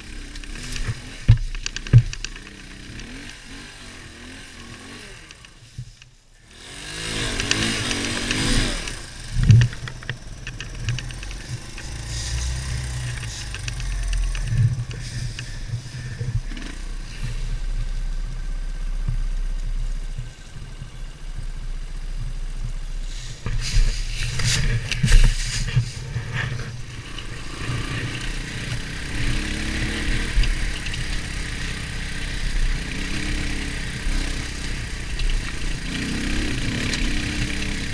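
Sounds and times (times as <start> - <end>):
dirtbike engine revving: 0.0 - 5.6, 6.4 - 18.0, 23.0 - 37.9.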